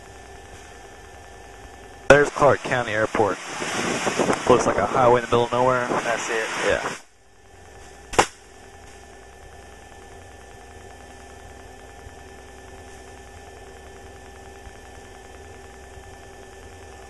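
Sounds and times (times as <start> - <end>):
airplane engine drone in cockpit: 0.0 - 17.0.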